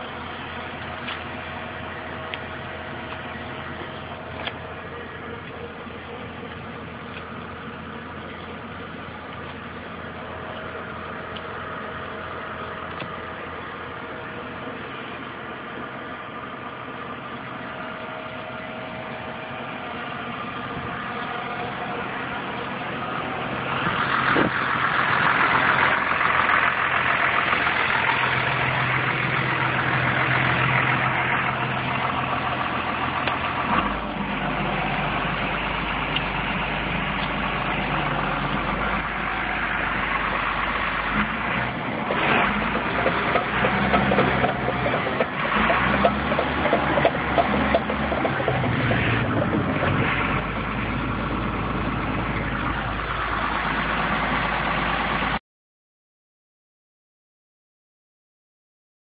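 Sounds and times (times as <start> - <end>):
deep hum: 0.0 - 55.3
diesel engine idling: 0.0 - 55.4.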